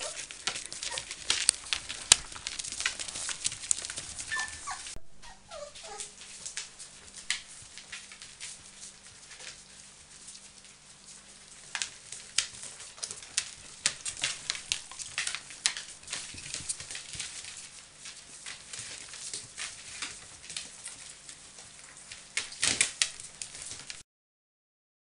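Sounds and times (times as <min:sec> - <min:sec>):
dog claws clicking on hard floor: 0:00.0 - 0:05.0, 0:05.8 - 0:24.0.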